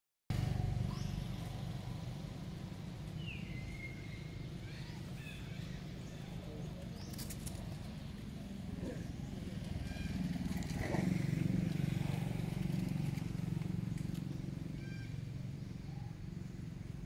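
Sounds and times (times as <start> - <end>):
steady low rumble: 0.3 - 17.0.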